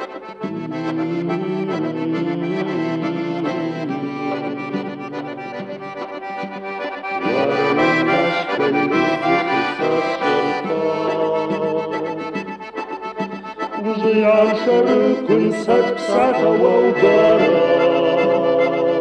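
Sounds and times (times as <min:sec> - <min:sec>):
instrumental folk music: 0:00.0 - 0:19.0.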